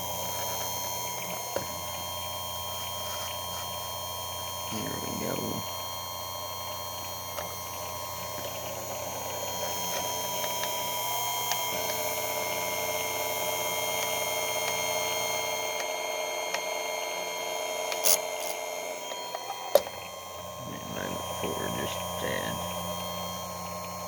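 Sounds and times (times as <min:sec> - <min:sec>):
chainsaw sharpener grinding: 0:00.0 - 0:06.0, 0:06.6 - 0:24.0.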